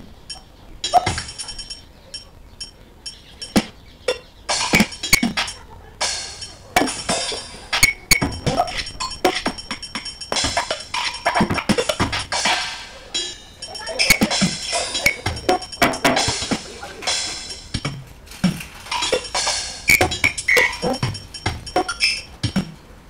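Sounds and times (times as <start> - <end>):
electronic clinks and clicks: 0.2 - 12.6, 13.2 - 18.2, 18.8 - 22.6.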